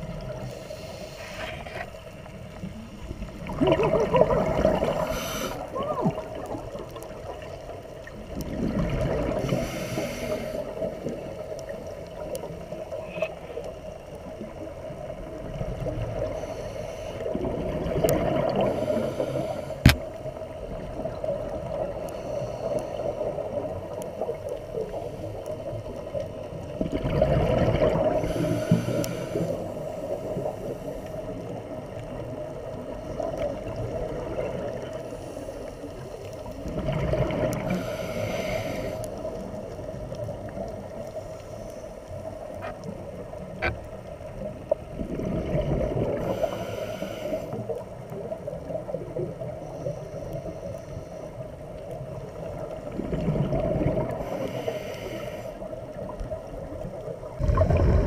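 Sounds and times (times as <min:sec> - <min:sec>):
scuba bubbles gurgling: 0:00.0 - 0:58.0.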